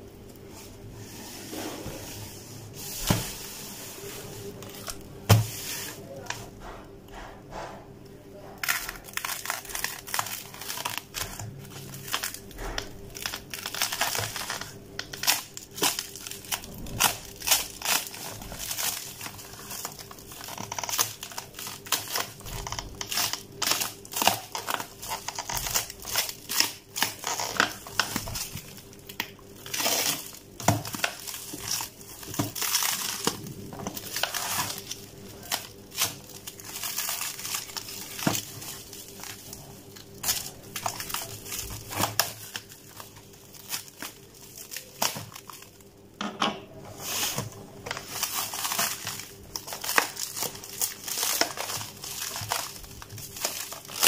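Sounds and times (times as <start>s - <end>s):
plastic wrap crinkling and tearing: 2.7s - 6.6s, 8.6s - 46.0s, 46.9s - 54.0s.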